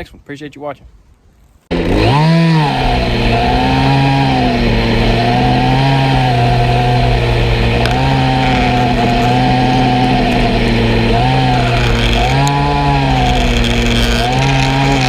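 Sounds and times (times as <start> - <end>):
chainsaw engine running: 1.7 - 15.0.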